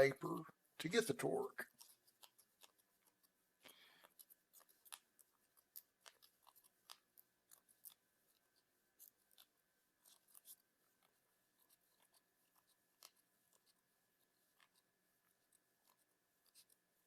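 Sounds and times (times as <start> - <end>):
faint small clicks and rustles: 1.6 - 17.0.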